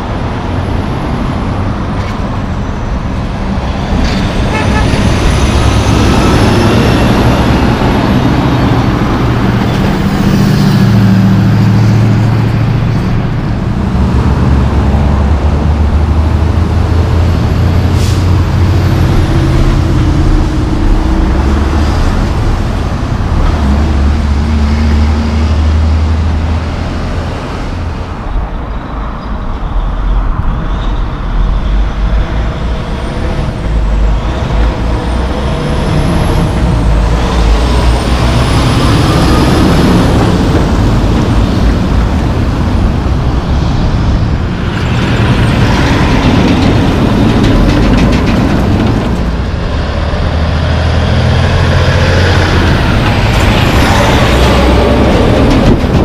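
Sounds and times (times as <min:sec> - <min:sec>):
diesel trucks passing: 0:00.0 - 0:56.0.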